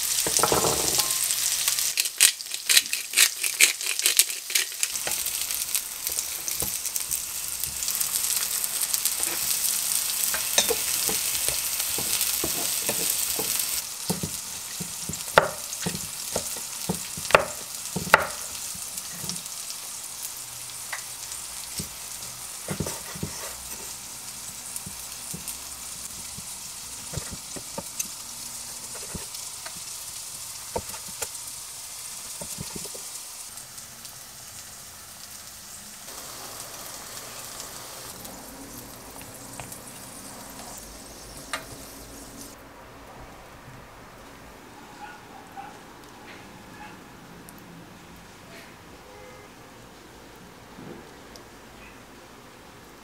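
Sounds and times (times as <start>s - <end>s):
frying sizzle: 0.0s - 44.9s.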